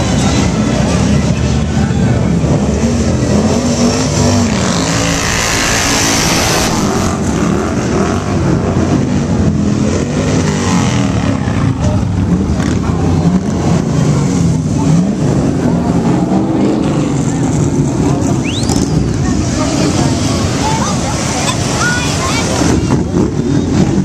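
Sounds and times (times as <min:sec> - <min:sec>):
motorcycles rumbling past: 0:02.0 - 0:24.0.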